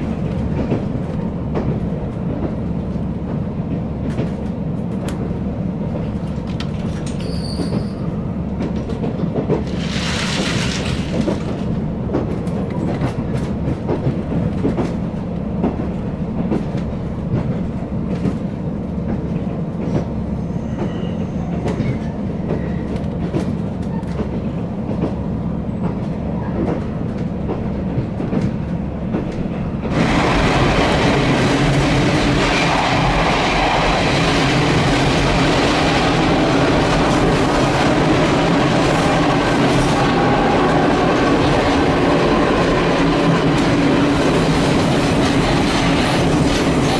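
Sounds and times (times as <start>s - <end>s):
railcar engine rumble: 0.0s - 46.9s
train running through tunnel: 0.0s - 46.9s.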